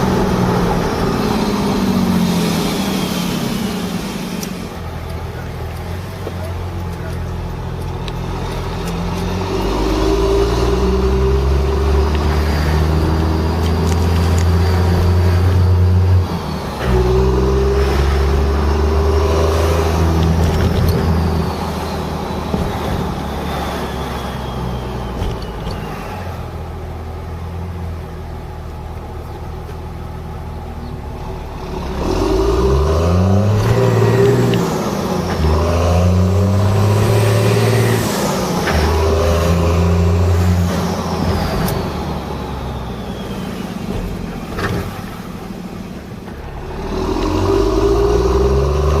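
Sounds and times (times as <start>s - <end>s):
diesel engine accelerating: 0.0s - 49.0s.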